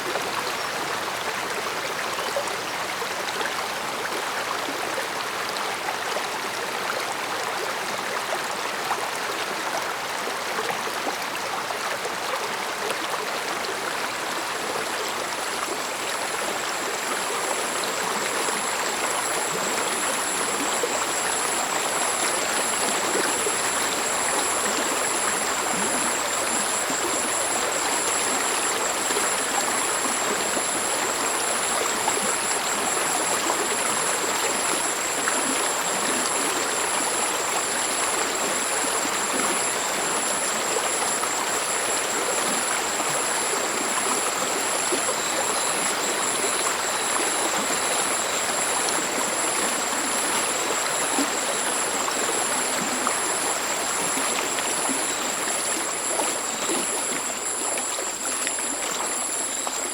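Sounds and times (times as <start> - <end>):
stream flowing over rocks: 0.1 - 59.9.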